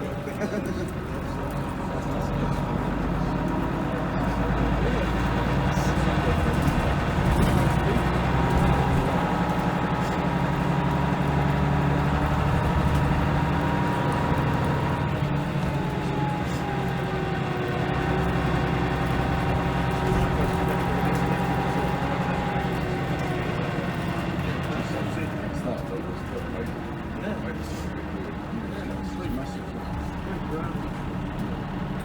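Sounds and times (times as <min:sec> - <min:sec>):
bus diesel engine running: 0:00.0 - 0:32.0.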